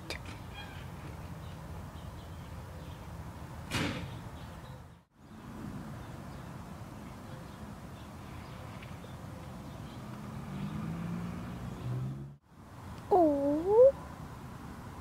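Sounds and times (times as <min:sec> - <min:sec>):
distant engine hum: 0:00.2 - 0:15.0.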